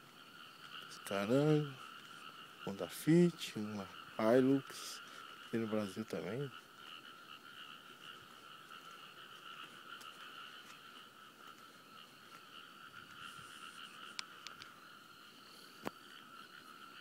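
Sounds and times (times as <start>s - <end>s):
chorus of frogs calling: 0.0s - 17.0s.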